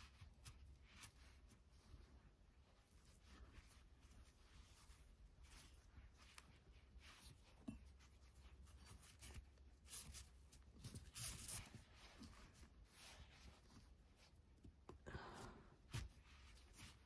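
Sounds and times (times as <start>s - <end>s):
cord rustling through weave: 0.0s - 14.9s, 15.8s - 17.0s.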